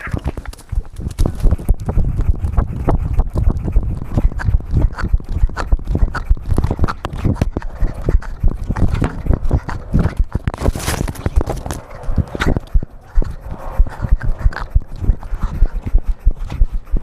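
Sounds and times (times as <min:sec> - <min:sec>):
camera knocking and rubbing: 0:00.0 - 0:17.0.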